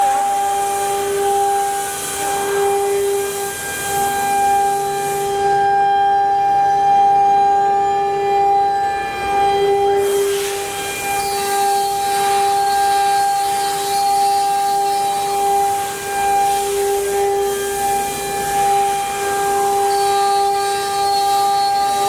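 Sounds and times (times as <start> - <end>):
router bit cutting wood: 0.0 - 7.4, 8.0 - 22.0
router spindle whining: 0.0 - 22.0.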